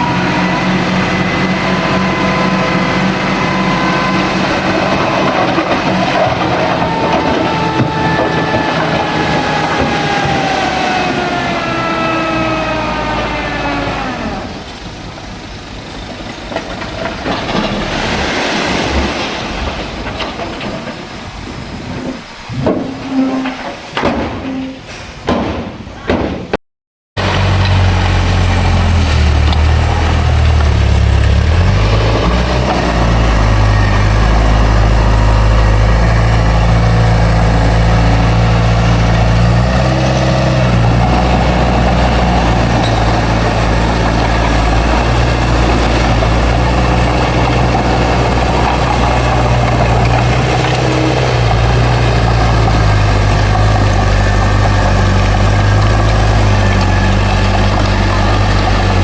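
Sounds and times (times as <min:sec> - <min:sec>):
bulldozer diesel engine running: 0:00.0 - 0:23.5, 0:27.2 - 0:59.0.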